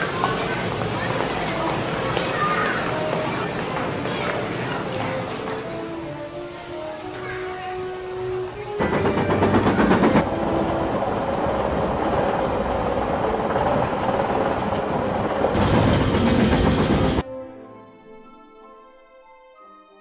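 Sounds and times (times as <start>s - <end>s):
steam train running at speed: 0.0s - 7.0s, 7.7s - 17.2s.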